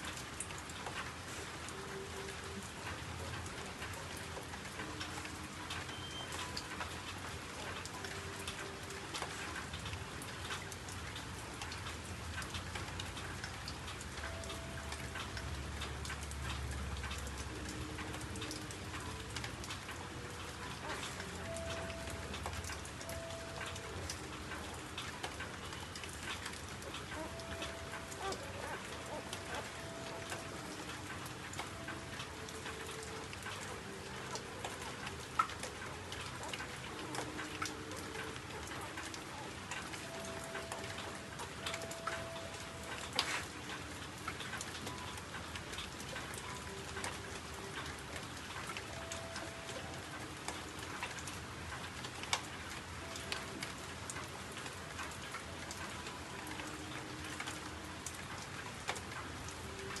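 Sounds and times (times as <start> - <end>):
sharp drips: 0.0 - 60.0
steady rain: 0.0 - 60.0.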